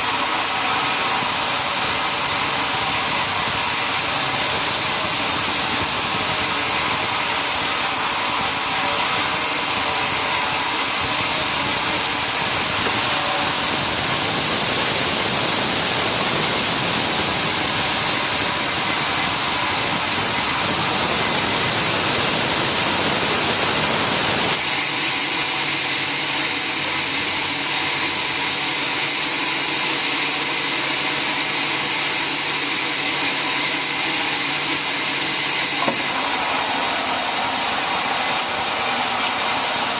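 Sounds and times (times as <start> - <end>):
sawmill machinery with high whine: 0.0 - 39.9.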